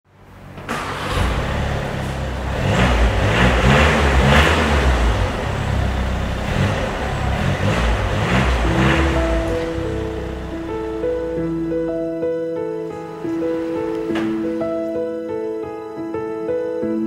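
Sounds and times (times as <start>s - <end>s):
cinematic music with deep bass: 1.1s - 17.0s.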